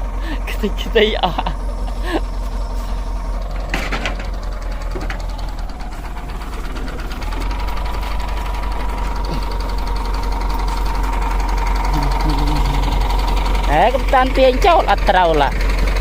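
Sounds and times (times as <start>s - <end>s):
steady whine: 0.0s - 15.4s
tractor engine knocking: 0.0s - 16.0s.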